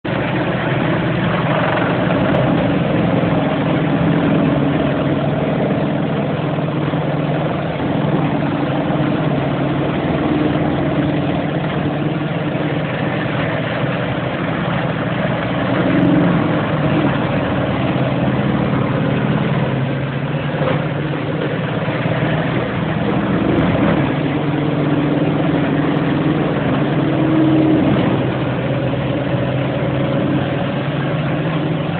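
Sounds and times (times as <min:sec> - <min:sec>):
heavy grinder machine drone: 0:00.0 - 0:31.9.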